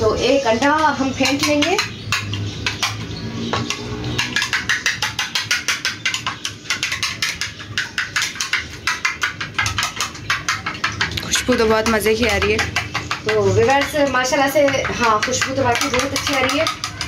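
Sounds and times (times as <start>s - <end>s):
spoon beating egg on plate: 0.6s - 17.0s.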